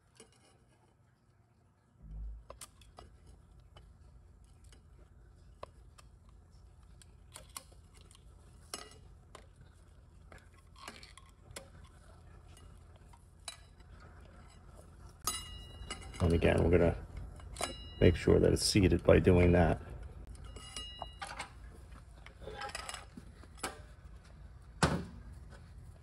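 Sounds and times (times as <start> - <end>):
metal clicks and scrapes: 0.0 - 1.1, 2.4 - 18.1, 20.0 - 24.6
low steady hum: 0.0 - 26.0.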